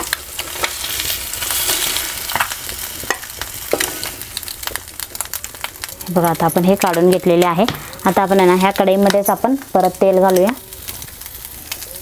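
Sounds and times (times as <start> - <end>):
eggs sizzling in hot oil: 0.0 - 12.0.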